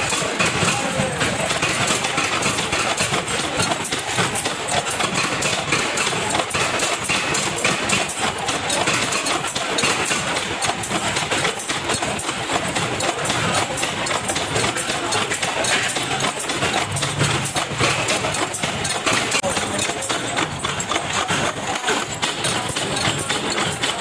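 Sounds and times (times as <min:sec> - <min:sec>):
factory machinery running: 0:00.0 - 0:24.0
metallic clicks clattering: 0:00.0 - 0:24.0.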